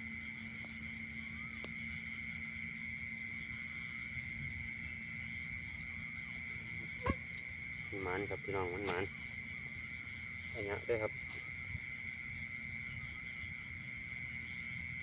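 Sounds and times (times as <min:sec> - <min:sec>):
high pulsing insect tone: 0:00.0 - 0:15.0
insects trilling: 0:00.0 - 0:15.0
low steady hum: 0:00.0 - 0:15.0.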